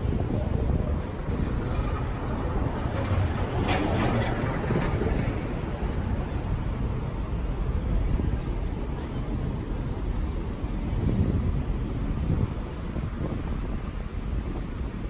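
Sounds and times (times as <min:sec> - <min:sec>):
street traffic: 0:00.0 - 0:15.0
wind rumbling on microphone: 0:00.0 - 0:15.0.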